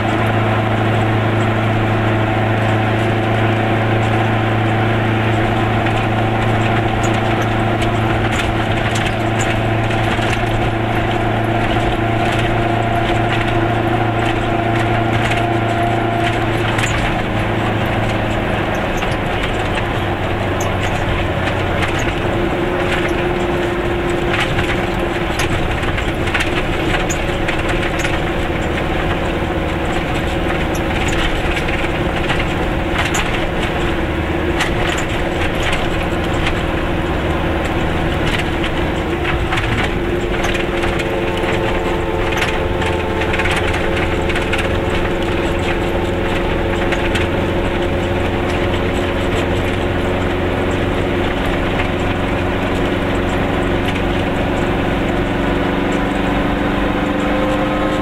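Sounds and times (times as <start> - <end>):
small car engine droning: 0.0 - 58.0
sharp ticks and rattles: 2.6 - 58.0.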